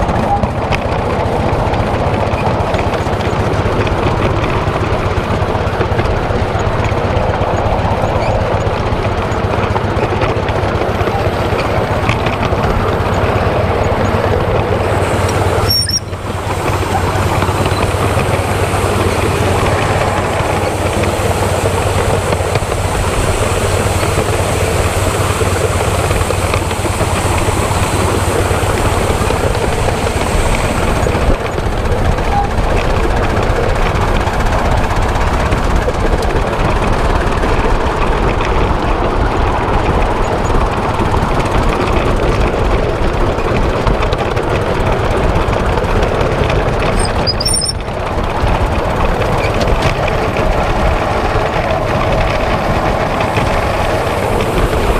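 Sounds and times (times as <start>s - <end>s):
miniature steam locomotive running: 0.0s - 54.9s.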